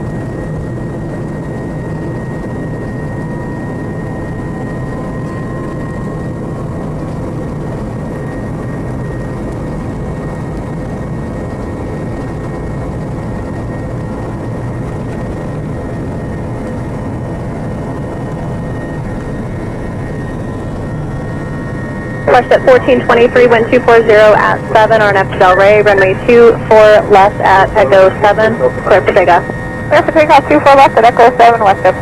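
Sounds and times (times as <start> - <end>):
jet engine roar in cabin: 0.0 - 32.0.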